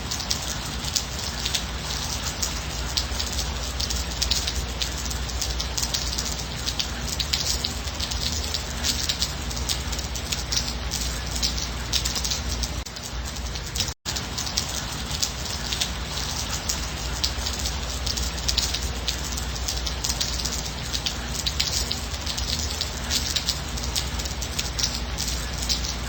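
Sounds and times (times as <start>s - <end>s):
steady gentle rain: 0.0s - 26.0s.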